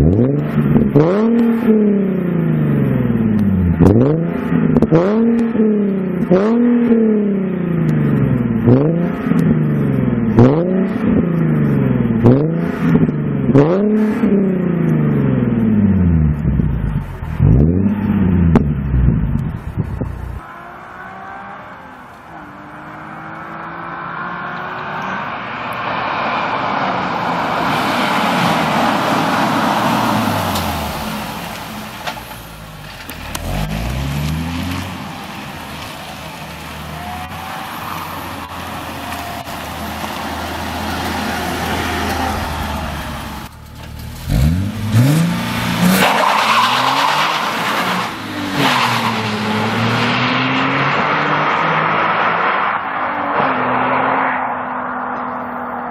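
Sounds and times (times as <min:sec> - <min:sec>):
car exhaust accelerating hard: 0:00.0 - 0:21.6, 0:27.1 - 0:52.3.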